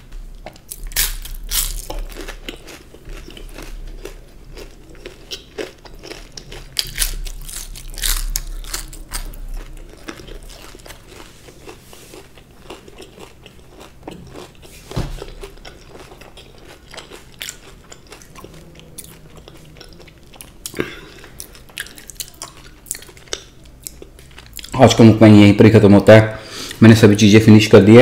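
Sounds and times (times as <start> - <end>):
crunchy chewing: 0.5 - 24.8.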